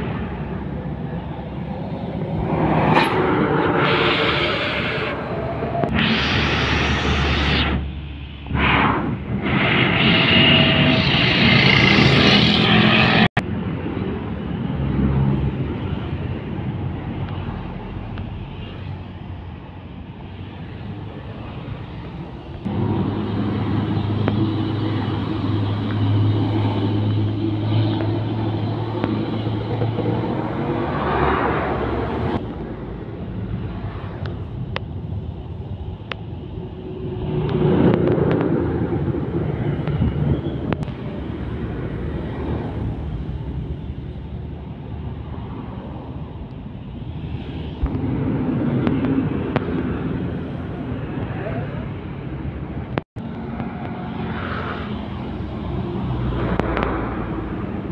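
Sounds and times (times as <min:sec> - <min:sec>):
diesel trucks passing: 0:00.0 - 0:57.9.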